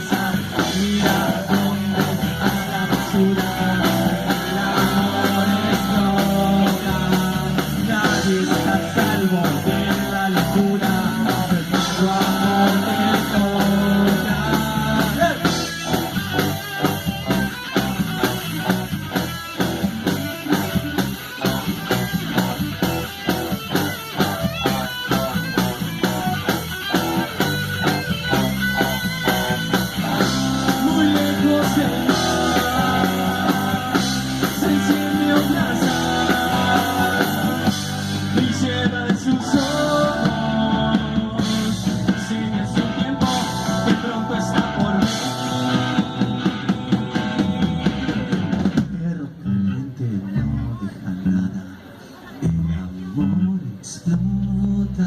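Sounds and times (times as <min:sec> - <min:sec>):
steady drum beat: 0:00.0 - 0:49.0
electric guitar rock music: 0:00.0 - 0:49.7.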